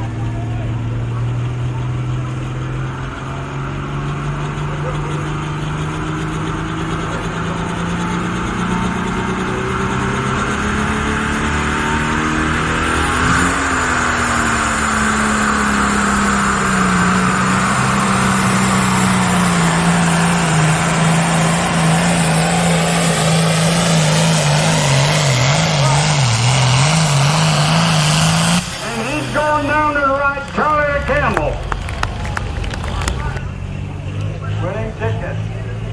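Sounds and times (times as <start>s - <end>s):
tractor diesel engine running hard: 0.0s - 35.9s.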